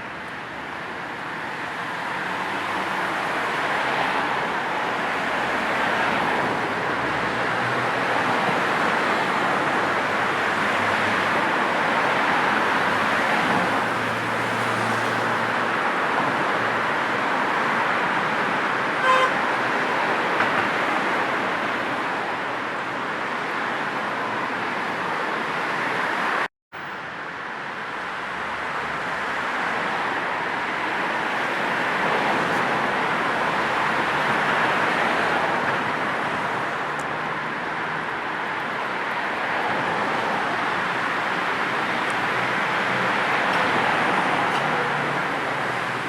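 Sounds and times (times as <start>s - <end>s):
road traffic rush: 0.0s - 46.0s.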